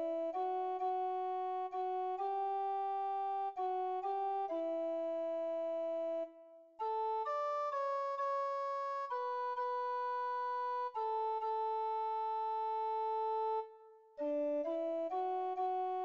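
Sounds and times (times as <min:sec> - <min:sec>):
computer hymn melody: 0:00.0 - 0:16.0.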